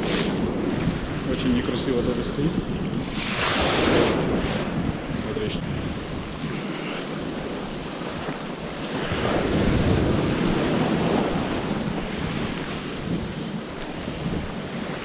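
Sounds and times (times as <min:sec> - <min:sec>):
surf washing around legs: 0:00.0 - 0:15.0
wind buffeting microphone: 0:00.0 - 0:15.0.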